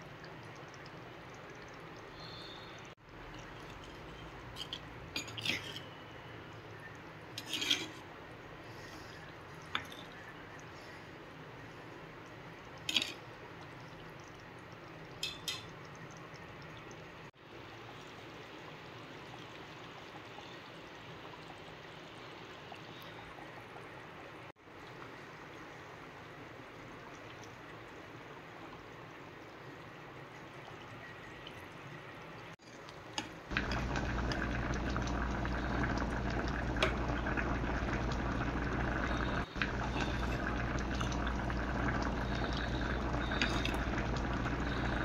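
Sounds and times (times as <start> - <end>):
curry bubbling in a pot: 0.0 - 45.0.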